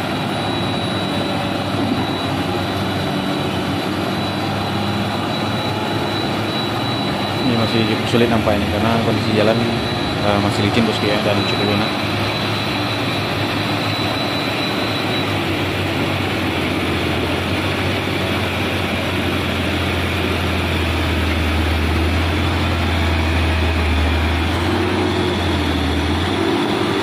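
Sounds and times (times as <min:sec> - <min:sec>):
heavy diesel engines labouring: 0:00.0 - 0:27.0.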